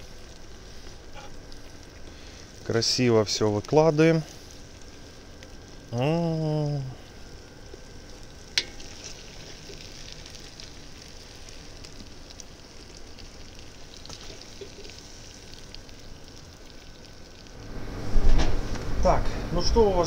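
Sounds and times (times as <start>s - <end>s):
food sizzling and crackling: 0.0s - 20.0s.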